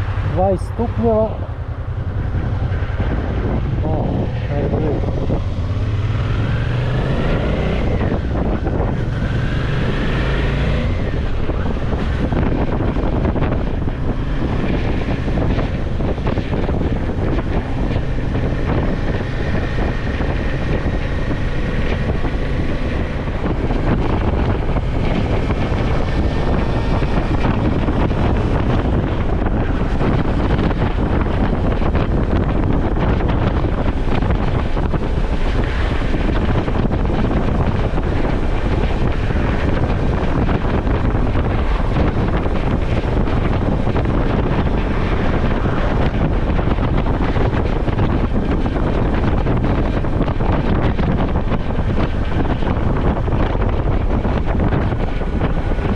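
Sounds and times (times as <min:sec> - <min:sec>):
motorcycle engine accelerating: 0:00.0 - 0:55.9
wind rushing over microphone: 0:00.0 - 0:55.9.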